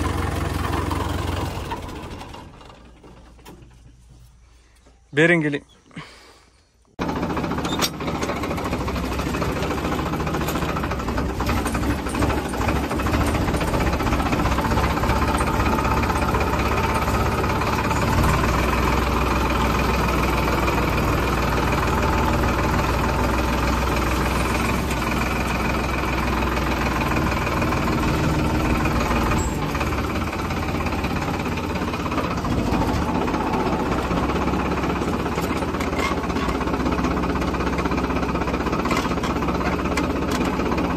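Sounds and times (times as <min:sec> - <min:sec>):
tractor diesel engine running: 0:00.0 - 0:05.8, 0:06.8 - 0:40.9.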